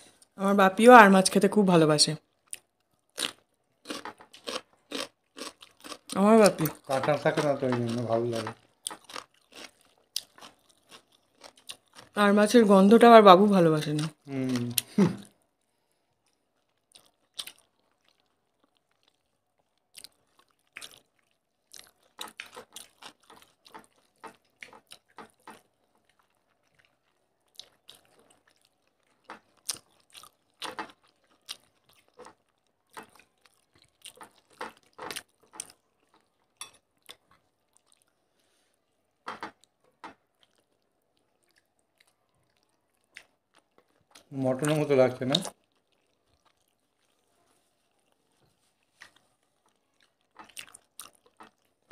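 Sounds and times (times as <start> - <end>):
chewing and mouth sounds: 2.2 - 12.2, 13.8 - 51.9.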